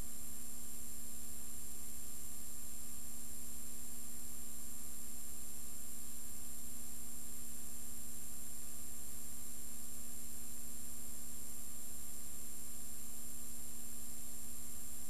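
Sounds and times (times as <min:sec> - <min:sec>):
faint high whine: 0:00.0 - 0:15.0
steady electrical hum: 0:00.0 - 0:15.0.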